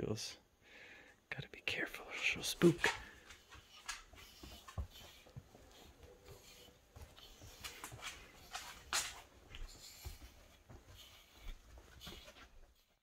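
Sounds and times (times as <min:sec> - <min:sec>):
grooming rake swishing through fur: 0:02.6 - 0:13.0.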